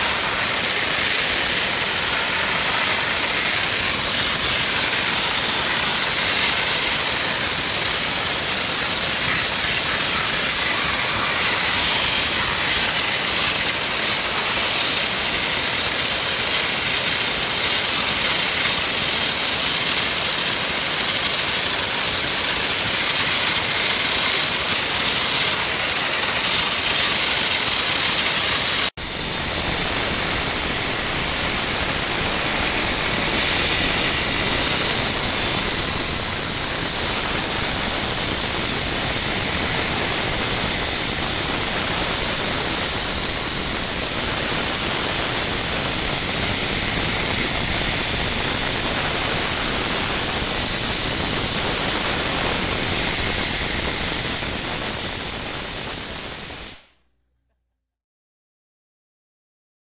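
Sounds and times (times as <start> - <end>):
dry ice blaster nozzle hissing: 0.0 - 56.9.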